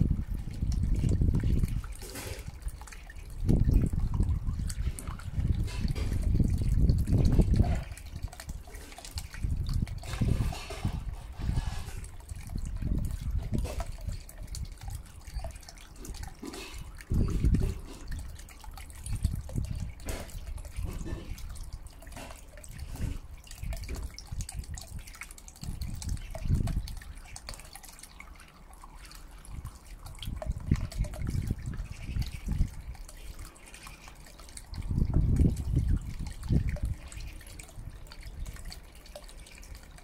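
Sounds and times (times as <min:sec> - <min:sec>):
fountain water splashing: 0:00.0 - 0:40.0.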